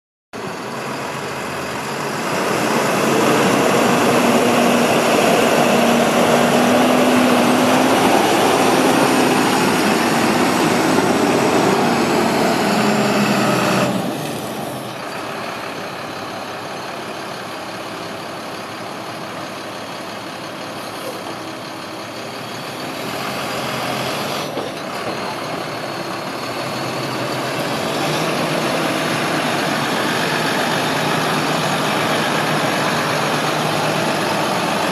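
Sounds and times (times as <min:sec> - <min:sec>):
diesel truck engine running: 0:00.4 - 0:34.9.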